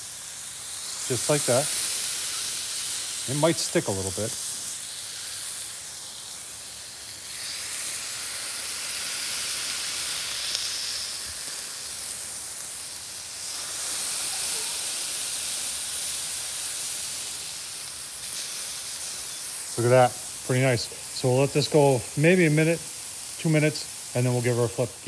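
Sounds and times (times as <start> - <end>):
beef patties sizzling on griddle: 0.0 - 25.0.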